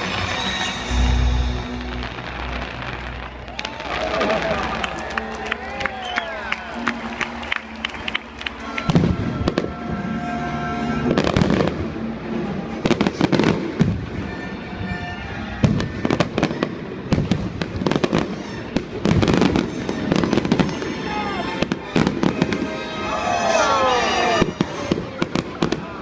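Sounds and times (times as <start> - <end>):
fireworks bangs and crackling: 0.0 - 6.1, 7.4 - 26.0
music playing: 0.0 - 26.0.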